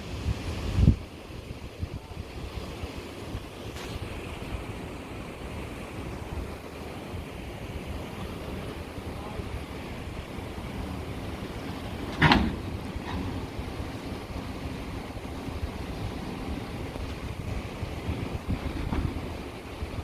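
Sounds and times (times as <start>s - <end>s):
steady rushing noise: 0.0s - 20.0s
wind buffeting microphone: 0.0s - 20.0s.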